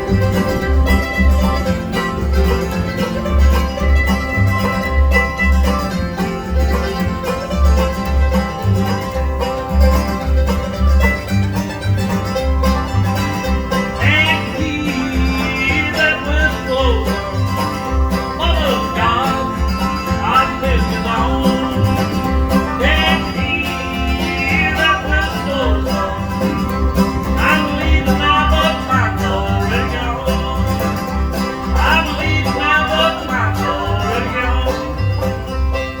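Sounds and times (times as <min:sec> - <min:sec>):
bluegrass band playing: 0:00.0 - 0:36.0
sliding lead line: 0:00.0 - 0:36.0.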